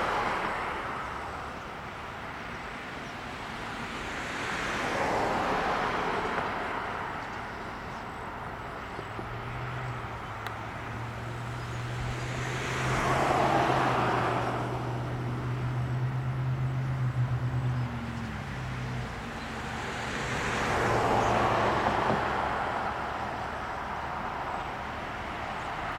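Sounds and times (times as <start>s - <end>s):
cars passing: 0.0s - 25.9s.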